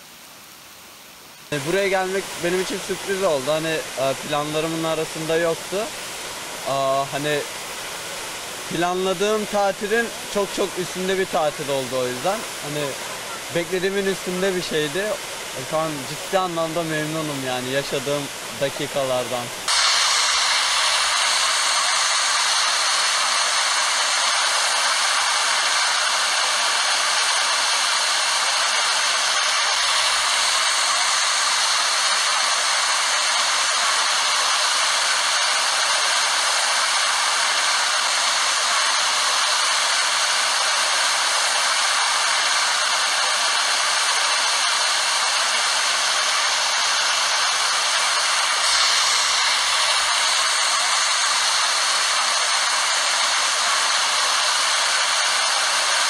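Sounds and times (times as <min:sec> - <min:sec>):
waterfall rushing hiss: 0:00.0 - 0:56.0.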